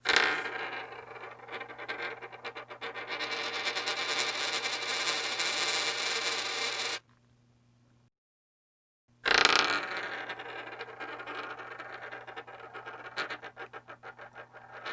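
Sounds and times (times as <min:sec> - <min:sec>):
coin spinning on hard surface: 0:00.1 - 0:07.0, 0:09.3 - 0:14.9.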